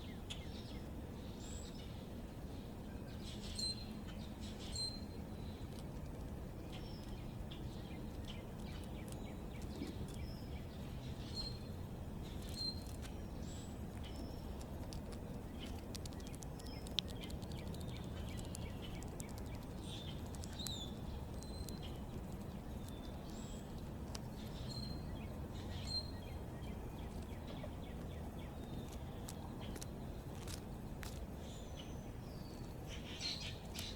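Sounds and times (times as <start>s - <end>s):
low background rumble: 0.0s - 33.9s
small birds chirping: 0.0s - 33.9s.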